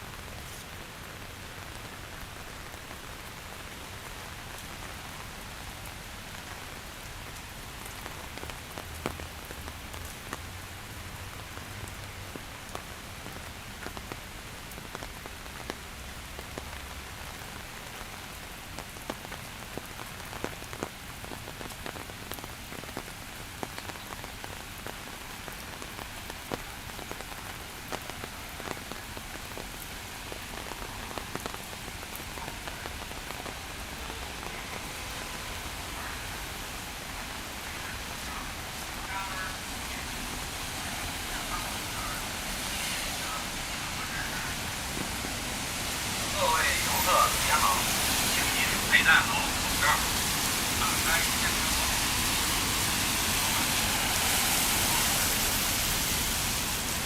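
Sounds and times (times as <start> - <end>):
raindrops ticking on a surface: 0.0 - 57.0
steady rain falling: 0.0 - 57.0.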